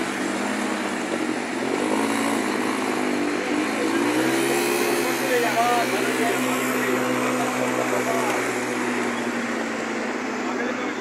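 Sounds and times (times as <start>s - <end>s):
small motorcycle engine revving: 0.0s - 10.6s.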